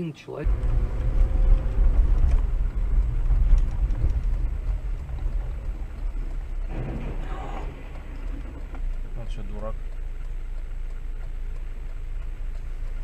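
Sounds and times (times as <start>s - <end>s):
car driving on wet street: 0.4s - 13.0s.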